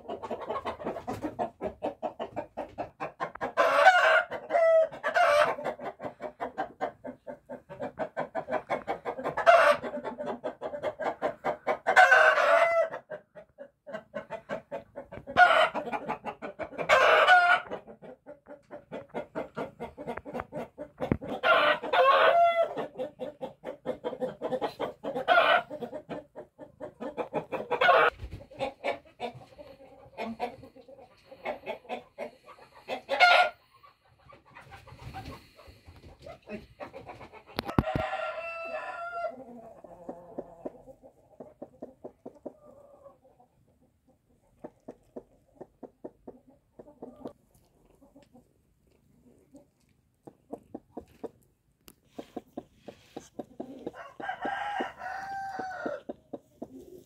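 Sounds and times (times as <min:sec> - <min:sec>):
hen clucking: 0:00.0 - 0:57.0.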